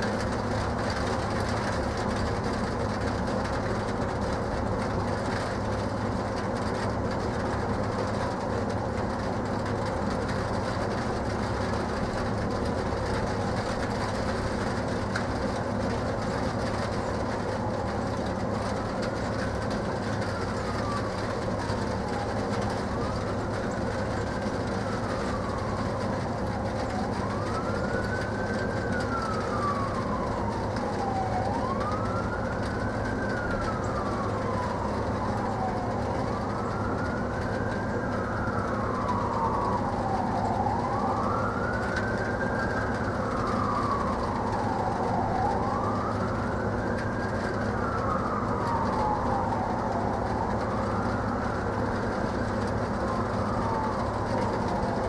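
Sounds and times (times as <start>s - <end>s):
low rumble with hum: 0.0s - 55.0s
siren wailing: 0.0s - 55.0s.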